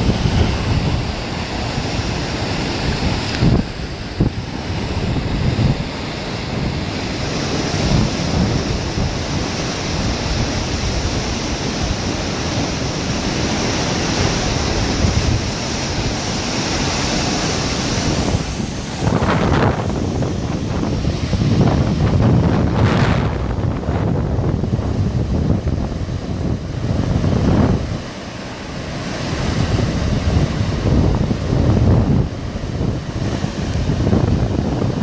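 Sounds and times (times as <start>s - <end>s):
strong gusty wind rushing: 0.0s - 35.0s
wind buffeting microphone: 0.0s - 35.0s.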